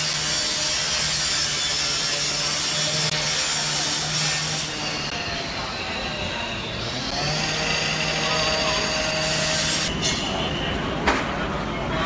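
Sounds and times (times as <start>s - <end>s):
power saw cutting metal: 0.0s - 10.3s.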